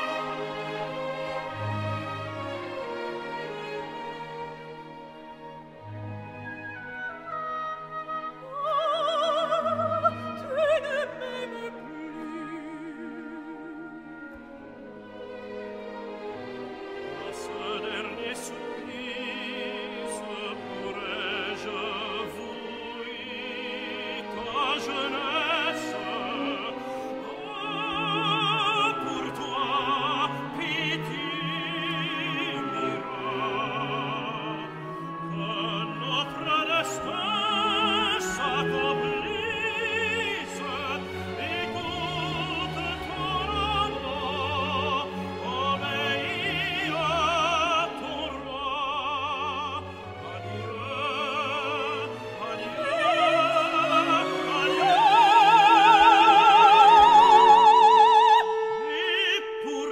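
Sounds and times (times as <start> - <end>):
operatic singing: 0.0 - 59.9
symphony orchestra: 0.0 - 59.9.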